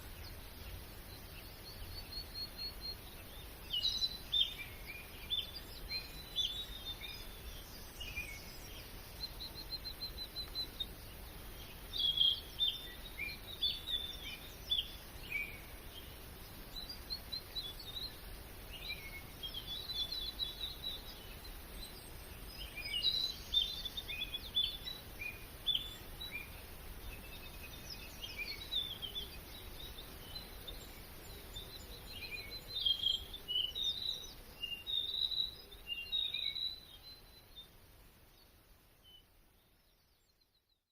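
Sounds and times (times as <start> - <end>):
birds chirping and trilling: 0.0 - 40.4
faint background hiss: 0.0 - 40.9.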